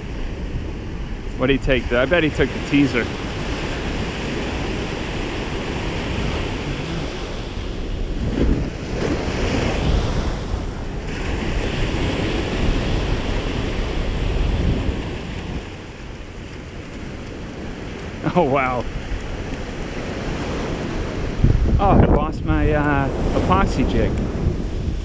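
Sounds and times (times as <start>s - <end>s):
small waves washing over sand: 0.0s - 25.0s
wind buffeting microphone: 0.0s - 25.0s.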